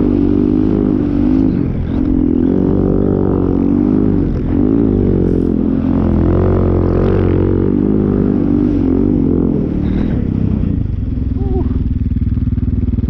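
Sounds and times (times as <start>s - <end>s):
snowmobile engine running hard: 0.0s - 13.0s.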